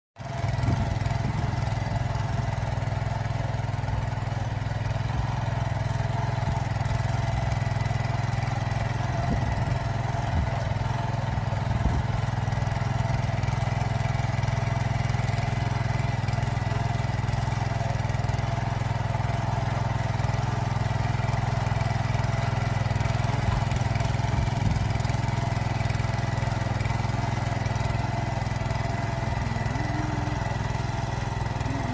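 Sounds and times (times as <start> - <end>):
power tiller engine running: 0.2 - 31.9.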